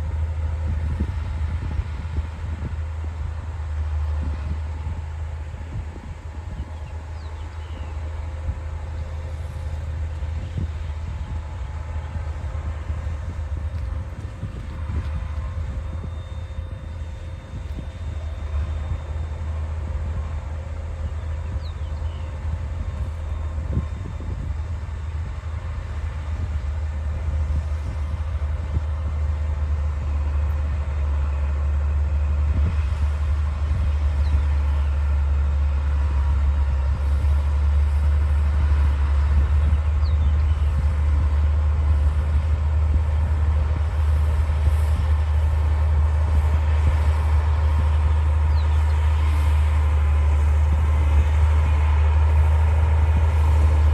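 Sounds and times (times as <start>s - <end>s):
bulldozer diesel engine droning: 0.0s - 53.9s.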